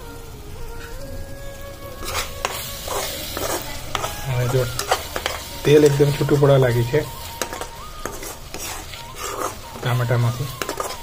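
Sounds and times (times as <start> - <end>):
background music: 0.0 - 11.0
sauce simmering in oil: 0.0 - 11.0
metal spatula scraping pan: 2.0 - 11.0.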